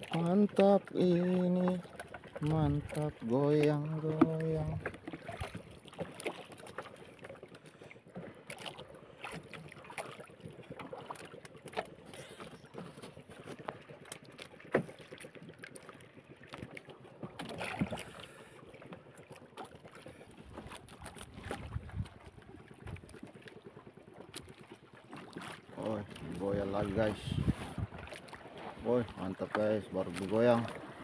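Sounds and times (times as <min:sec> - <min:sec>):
water lapping against boat hull: 0:00.0 - 0:31.0.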